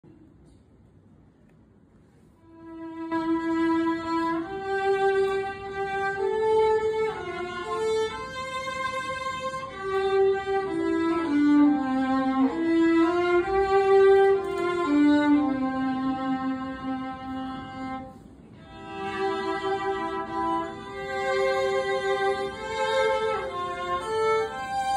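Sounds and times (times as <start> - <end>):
violins playing slow melody: 2.4 - 24.9.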